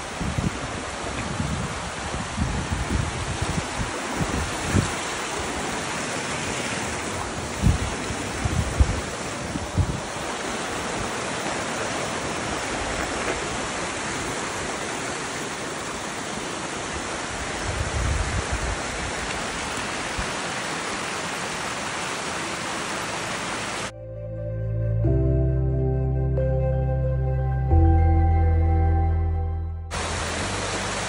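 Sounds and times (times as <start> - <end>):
creek rushing over rocks: 0.0 - 23.9, 29.9 - 31.0.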